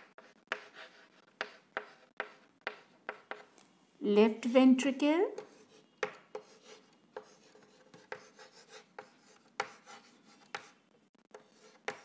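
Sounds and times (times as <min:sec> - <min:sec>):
chalk scratching on chalkboard: 0:00.0 - 0:03.5, 0:05.4 - 0:12.0.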